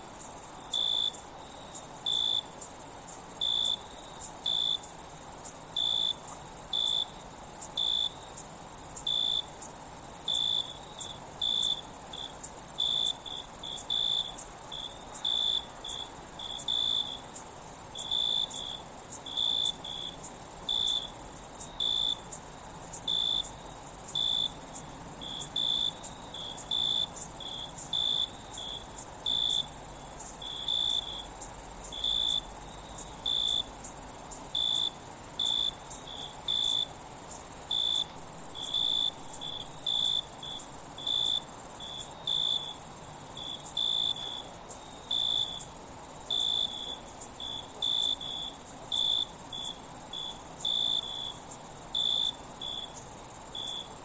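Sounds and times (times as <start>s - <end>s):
cricket chirping: 0.0s - 54.0s
high-pitched insect trill: 0.1s - 54.0s.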